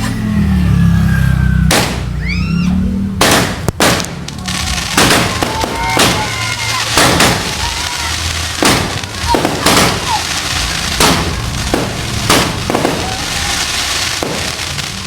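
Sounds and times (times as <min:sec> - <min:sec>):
fireworks whistling: 0:00.0 - 0:15.0
fireworks bangs: 0:01.6 - 0:15.0.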